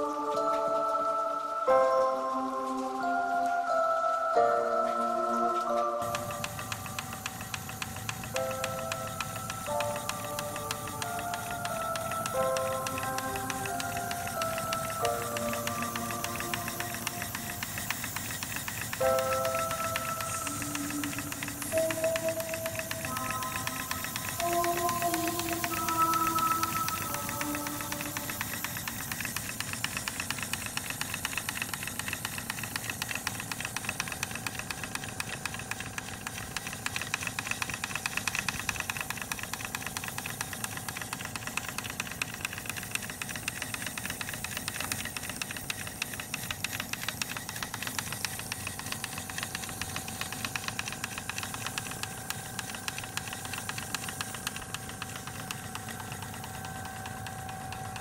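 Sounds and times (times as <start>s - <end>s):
model steam engine clattering: 6.0s - 58.0s.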